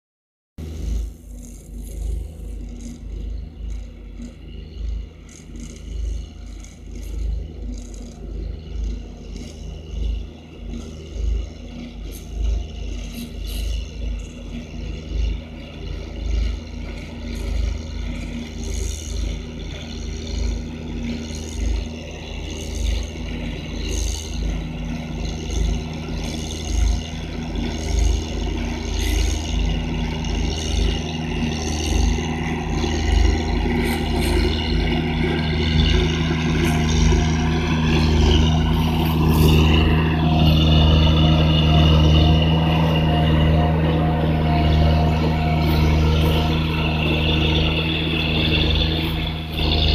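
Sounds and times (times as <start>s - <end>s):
road roller engine running: 0.6s - 49.9s.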